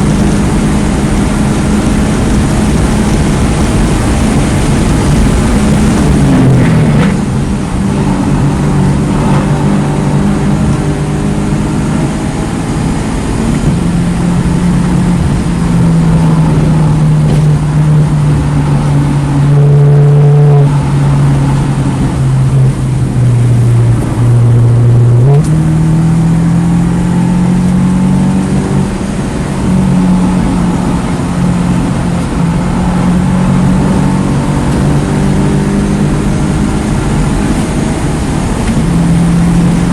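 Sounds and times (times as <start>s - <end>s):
car engine under hard driving: 0.0s - 39.9s
road and wind noise: 0.0s - 39.9s.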